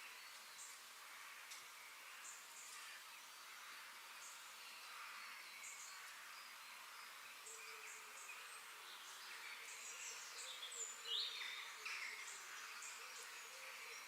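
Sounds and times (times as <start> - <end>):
wild birds chirping: 0.0 - 14.0.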